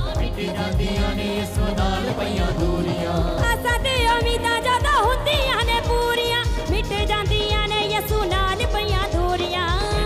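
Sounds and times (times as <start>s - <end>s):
live band playing: 0.0s - 10.0s
quick steady drum beat: 0.0s - 10.0s.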